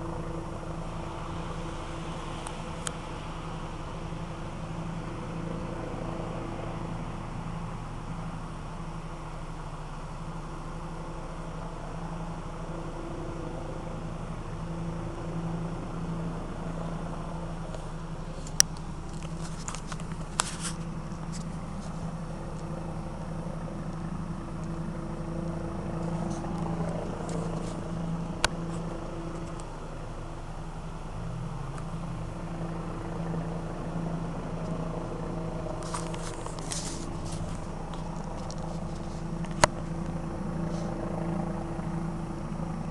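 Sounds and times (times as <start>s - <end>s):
helicopter droning: 0.0s - 42.9s.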